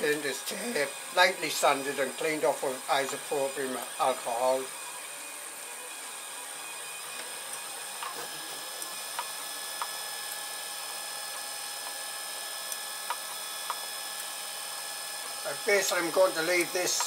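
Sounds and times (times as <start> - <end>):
printer motors and fans whining: 0.0 - 17.0.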